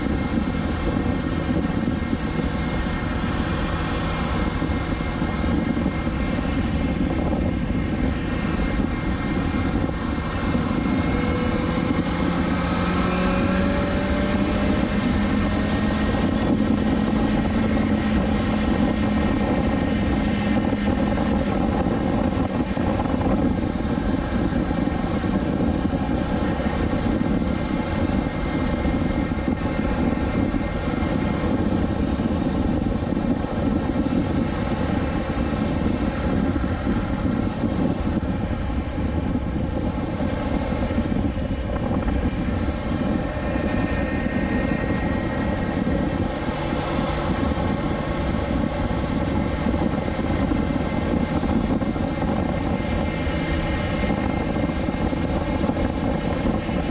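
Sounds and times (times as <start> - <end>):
motorcycle engine drone: 0.0 - 56.9.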